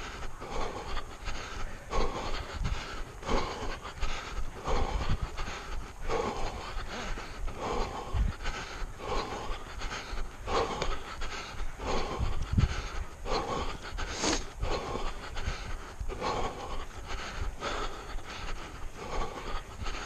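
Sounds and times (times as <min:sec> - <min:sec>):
runner panting heavily: 0:00.0 - 0:20.0.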